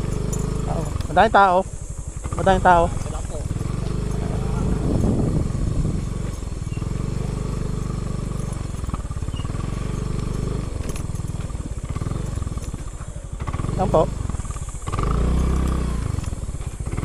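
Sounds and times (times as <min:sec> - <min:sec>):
scooter engine puttering: 0:00.0 - 0:17.0.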